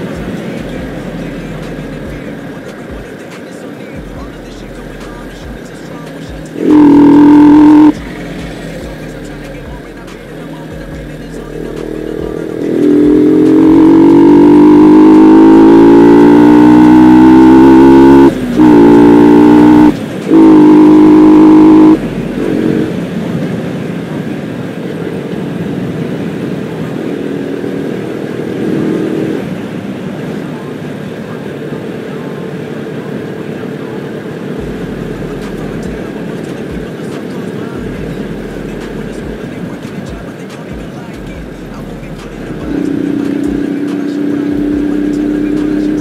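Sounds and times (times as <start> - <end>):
motorcycle engine accelerating: 4.0 - 23.6, 24.8 - 40.4, 41.2 - 46.0.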